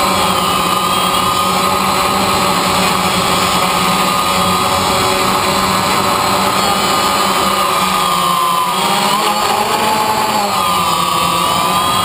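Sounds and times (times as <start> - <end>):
drone propellers buzzing: 0.0 - 12.0.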